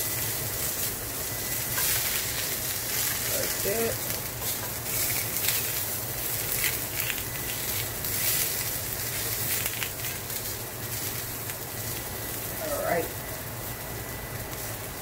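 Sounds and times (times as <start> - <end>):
tongs tapping a skillet: 0.0 - 12.1
low fan hum: 0.0 - 15.0
squash sizzling in oil: 0.0 - 15.0.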